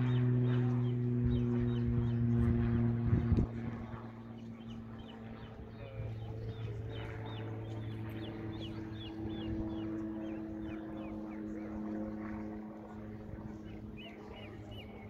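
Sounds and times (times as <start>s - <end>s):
small birds chirping: 0.0s - 2.8s, 4.1s - 12.6s, 13.4s - 15.0s
low engine hum: 0.0s - 15.0s.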